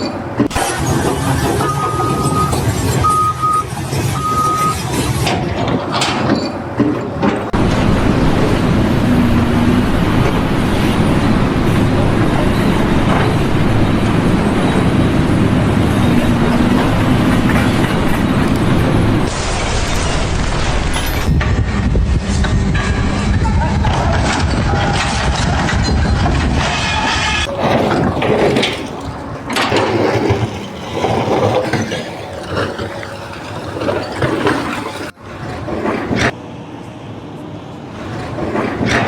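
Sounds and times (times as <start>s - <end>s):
heavy machinery noise: 0.0s - 39.0s.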